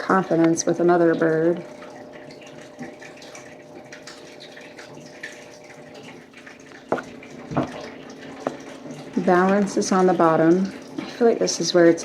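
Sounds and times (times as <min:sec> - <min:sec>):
faint hum: 0:00.0 - 0:12.0
running water noise: 0:00.0 - 0:12.0.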